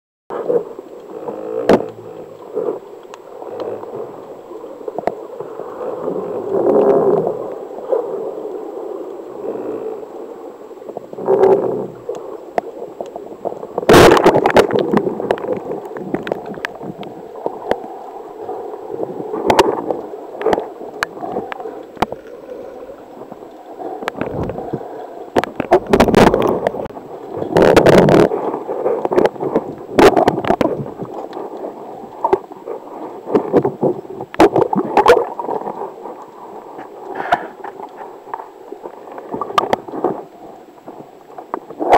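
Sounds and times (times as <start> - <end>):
underwater gurgling and bubbling: 0.3 - 41.9.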